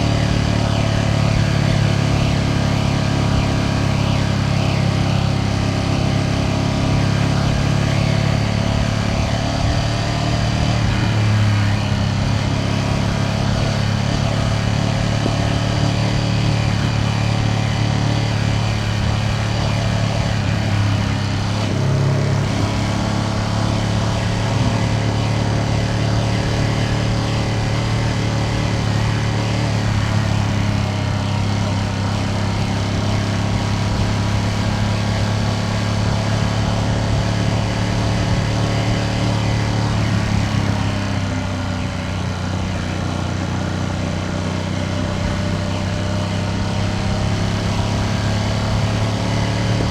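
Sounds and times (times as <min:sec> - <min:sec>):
motorcycle engine cruising: 0:00.0 - 0:49.9
wind and road noise: 0:00.0 - 0:49.9.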